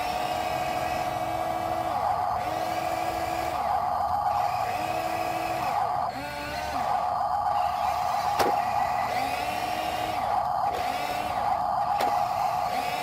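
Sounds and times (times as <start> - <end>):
toy truck motors whining: 0.0 - 13.0.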